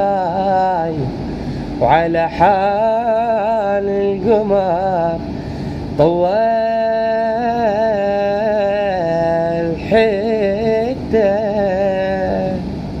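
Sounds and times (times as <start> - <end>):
man singing melisma: 0.0 - 1.2, 1.8 - 5.3, 6.0 - 12.8.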